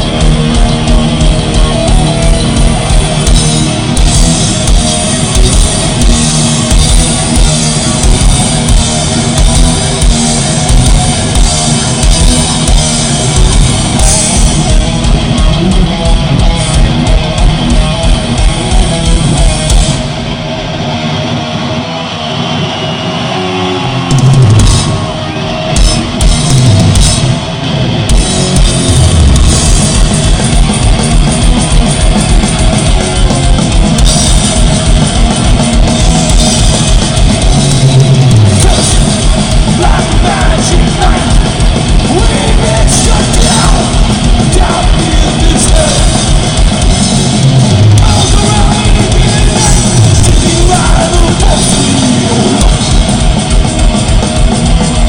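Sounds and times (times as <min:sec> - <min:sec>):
heavy metal band playing: 0:00.0 - 0:55.0.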